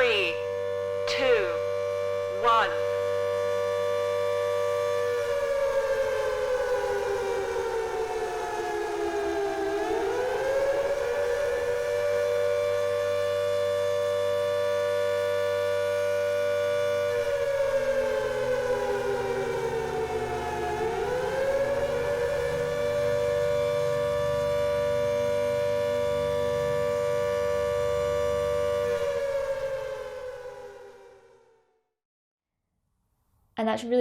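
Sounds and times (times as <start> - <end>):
air-raid siren wailing: 0.0 - 31.8.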